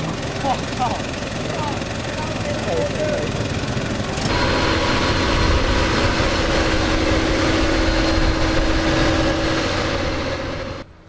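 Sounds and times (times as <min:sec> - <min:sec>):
diesel engine running: 0:00.0 - 0:11.0
steady whine: 0:00.0 - 0:11.0.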